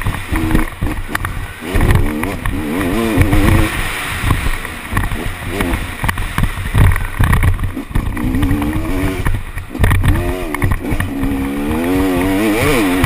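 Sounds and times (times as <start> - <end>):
thumps: 0.0 - 12.4
motocross engine revving: 0.0 - 13.0.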